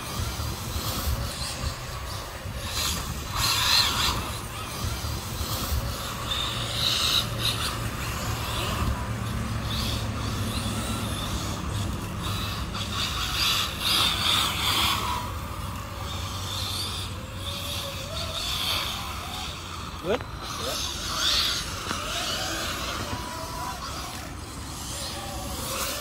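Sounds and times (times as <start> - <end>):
high motor whine: 0.0 - 26.0
small electric motors humming: 0.0 - 26.0.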